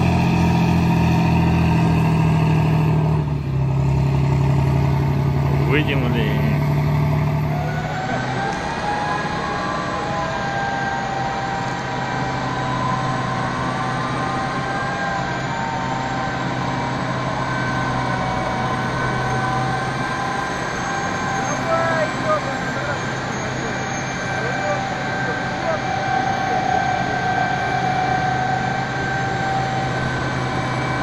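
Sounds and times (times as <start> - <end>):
high whining tones: 0.0 - 31.0
truck engine hum: 0.0 - 31.0.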